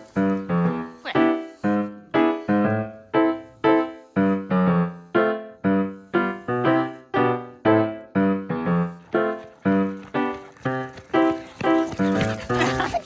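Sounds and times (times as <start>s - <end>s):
piano-like keyboard notes: 0.0s - 13.0s.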